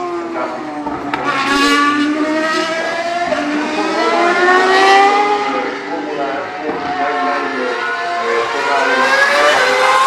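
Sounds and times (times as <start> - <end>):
racing car engine: 0.0 - 10.0.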